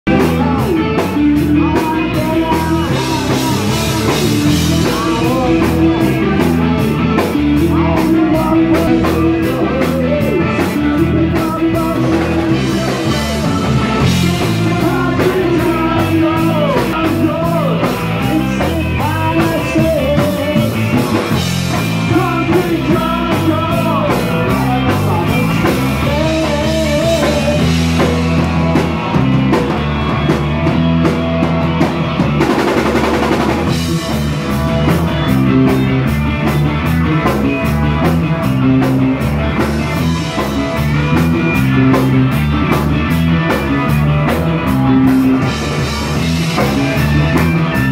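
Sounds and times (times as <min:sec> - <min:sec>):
bass line: 0:00.0 - 0:47.9
electric guitar: 0:00.0 - 0:47.9
drum kit: 0:00.1 - 0:47.9.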